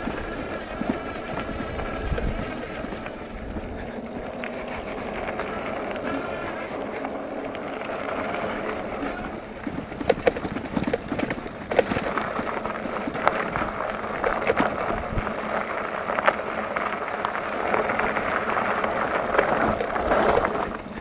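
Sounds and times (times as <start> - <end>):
bike rattling over bumps: 0.0 - 21.0
tyre rolling over gravel: 0.0 - 21.0.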